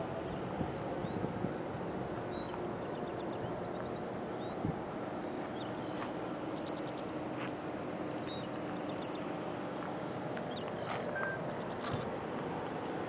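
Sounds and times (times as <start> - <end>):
small birds chirping: 0.2 - 12.2.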